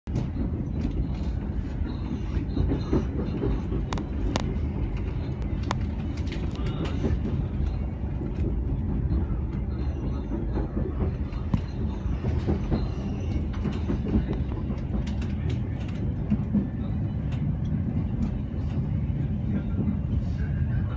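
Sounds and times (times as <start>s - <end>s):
train wheels rumbling on rails: 0.1s - 20.9s.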